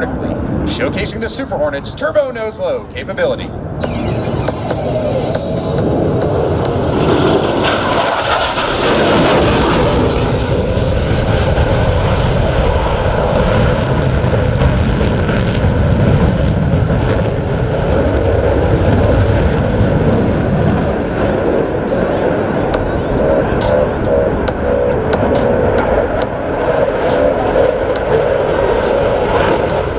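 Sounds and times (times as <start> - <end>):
jet engine roar: 0.0 - 29.9.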